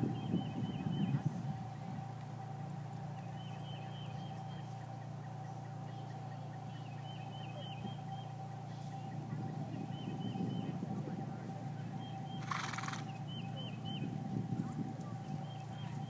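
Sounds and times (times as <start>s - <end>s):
bird chirping: 0.0s - 1.4s, 2.4s - 14.2s, 15.1s - 16.0s
faint hum: 0.0s - 16.0s
low rumble: 0.0s - 16.0s.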